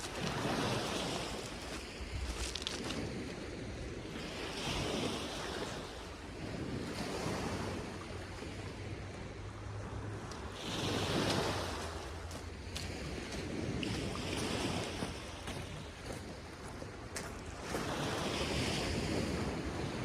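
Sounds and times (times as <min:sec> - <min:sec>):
sea waves washing onto beach: 0:00.0 - 0:20.0
wind on microphone: 0:00.0 - 0:20.0.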